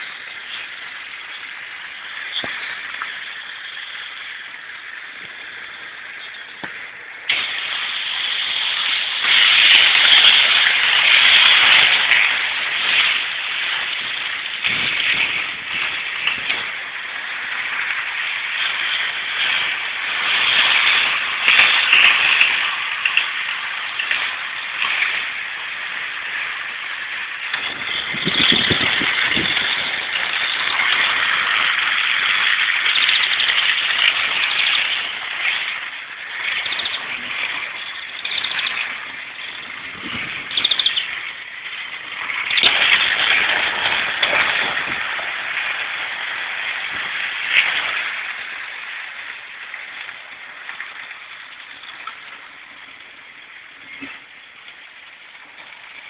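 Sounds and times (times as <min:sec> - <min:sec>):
model trains rattling on track: 0:00.0 - 0:56.0.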